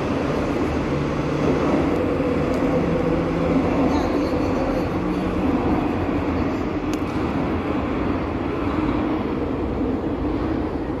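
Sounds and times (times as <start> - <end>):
train rumble and hum: 0.0 - 11.0.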